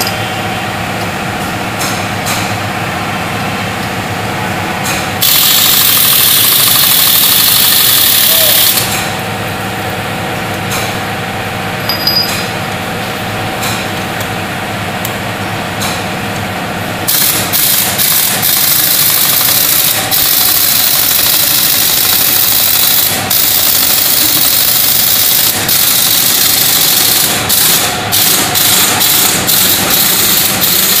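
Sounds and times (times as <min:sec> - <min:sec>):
machinery humming: 0:00.0 - 0:31.0.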